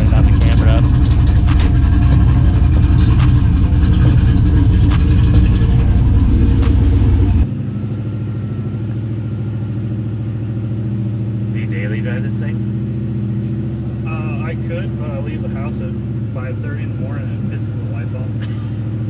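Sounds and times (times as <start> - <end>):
truck engine idling loudly: 0.0 - 19.0.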